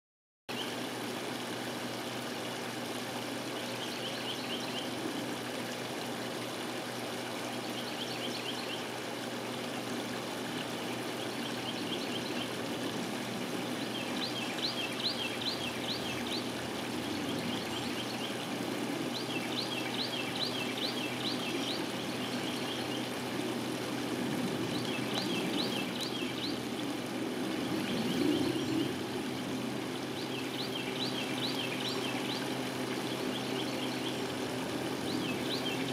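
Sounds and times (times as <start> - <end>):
creek water splashing over rocks: 0.5 - 35.9.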